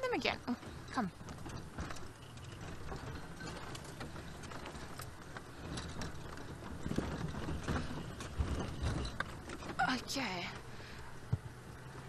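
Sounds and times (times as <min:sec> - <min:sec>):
vehicle body rattling and knocking: 0:00.0 - 0:12.0
vehicle engine rumbling: 0:00.0 - 0:12.0.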